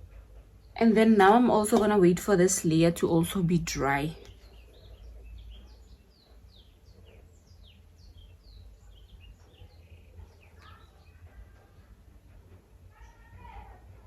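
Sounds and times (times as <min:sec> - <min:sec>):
birds chirping: 0:00.0 - 0:11.9
low steady hum: 0:00.0 - 0:14.0.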